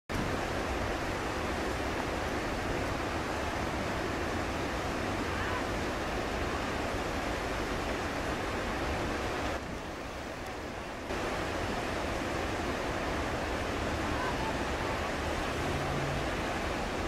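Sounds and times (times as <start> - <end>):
river rapids rushing: 0.1 - 17.0.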